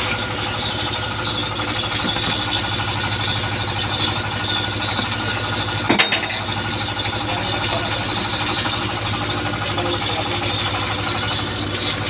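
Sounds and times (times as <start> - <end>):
tugboat engine idling: 0.0 - 12.0.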